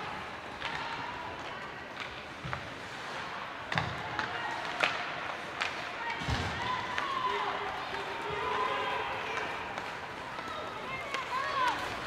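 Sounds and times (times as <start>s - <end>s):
hockey sticks and puck clacking: 0.1s - 12.0s.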